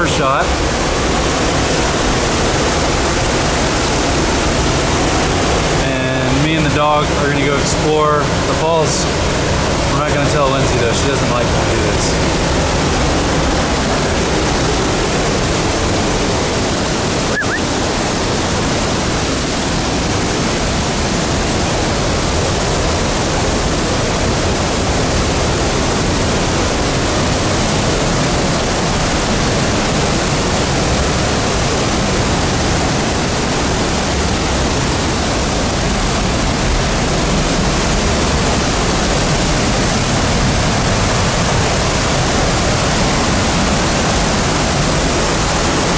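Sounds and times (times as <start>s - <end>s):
waterfall rushing water: 0.0s - 45.9s.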